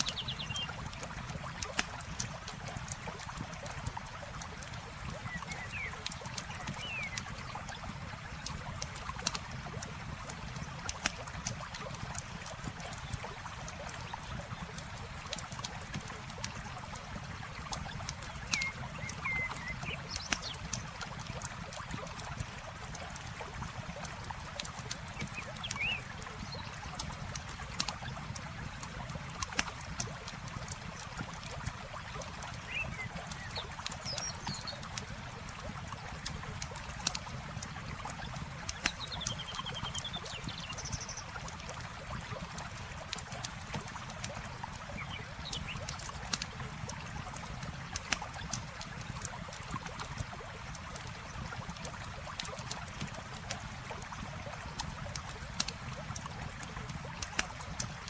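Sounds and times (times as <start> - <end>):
river water flowing: 0.0 - 58.0
campfire crackling and popping: 0.3 - 58.0.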